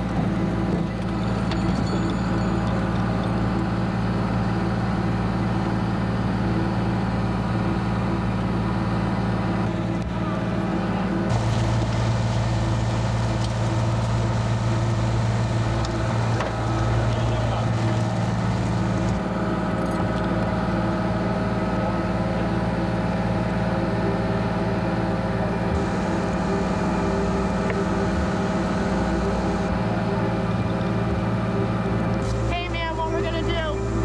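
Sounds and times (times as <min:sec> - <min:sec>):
motor humming: 0:00.0 - 0:34.0.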